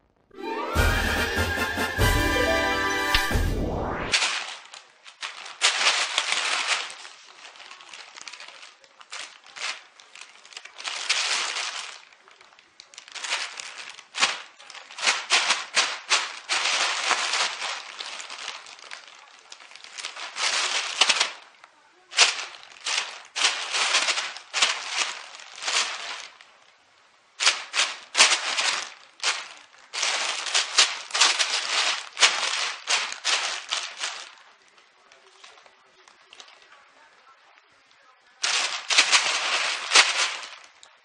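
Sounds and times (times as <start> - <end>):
plastic bag crinkling: 3.2 - 41.0.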